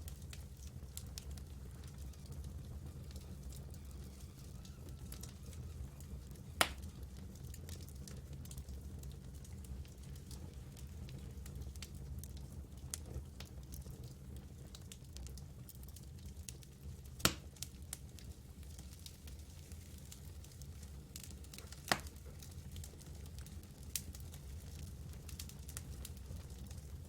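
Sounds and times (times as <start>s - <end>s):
campfire flames rumbling: 0.0s - 27.0s
fire crackling: 0.0s - 27.0s.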